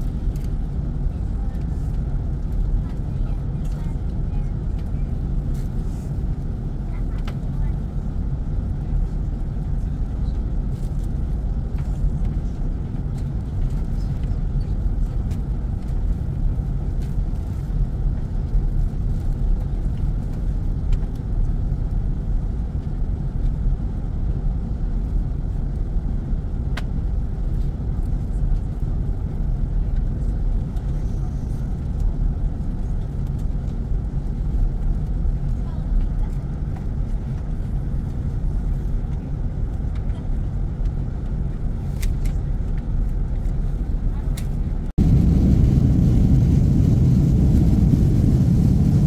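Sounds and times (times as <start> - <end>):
airliner cabin rumble: 0.0 - 49.0.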